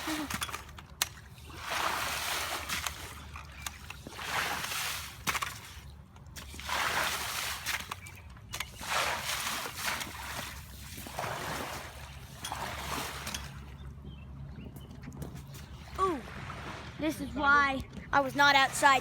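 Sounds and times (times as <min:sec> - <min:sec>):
water sloshing and swishing: 0:00.0 - 0:14.2, 0:15.0 - 0:19.0.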